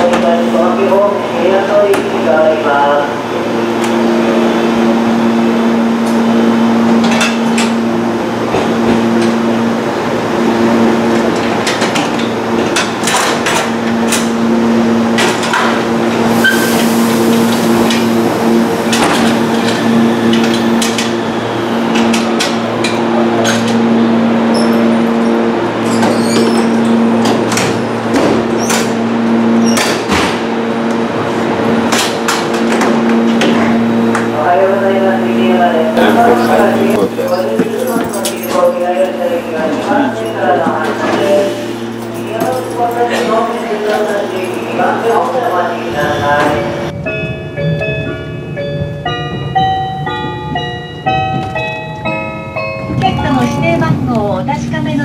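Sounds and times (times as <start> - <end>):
hum of standing trains: 0.0 - 55.0.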